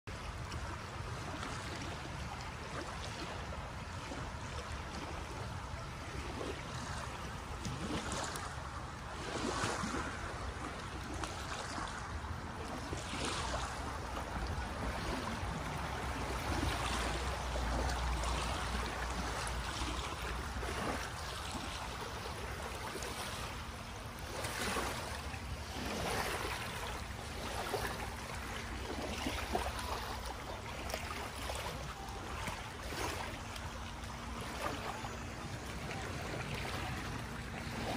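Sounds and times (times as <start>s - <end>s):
small waves on sandy shore: 0.1s - 37.9s.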